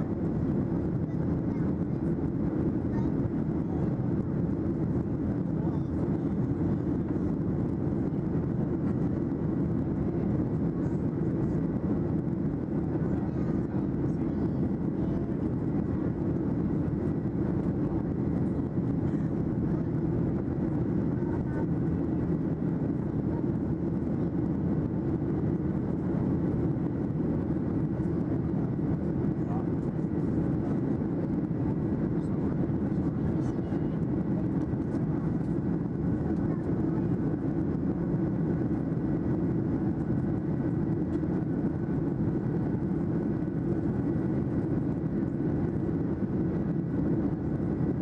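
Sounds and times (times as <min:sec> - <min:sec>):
jet engine rumble in cabin: 0:00.0 - 0:48.0.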